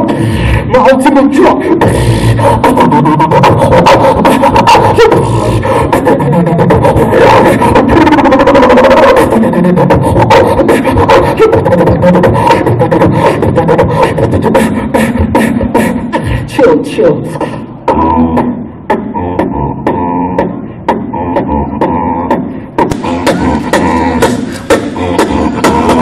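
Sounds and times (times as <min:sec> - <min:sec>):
person beatboxing: 0:00.0 - 0:26.0.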